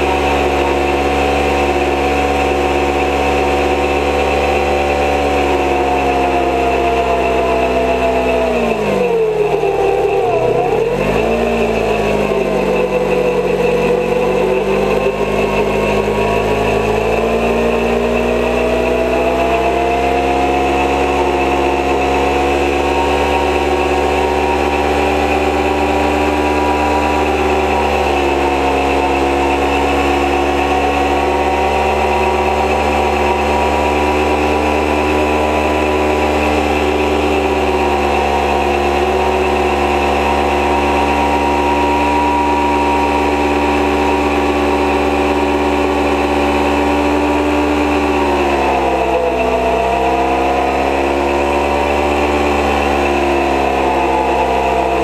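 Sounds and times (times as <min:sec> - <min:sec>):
motorcycle engine at high revs: 0:00.0 - 0:55.0
rear tyre spinning: 0:00.0 - 0:55.0.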